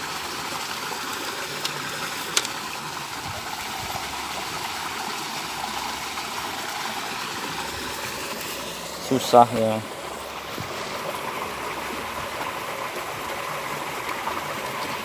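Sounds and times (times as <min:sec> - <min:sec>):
running water hissing: 0:00.0 - 0:15.0.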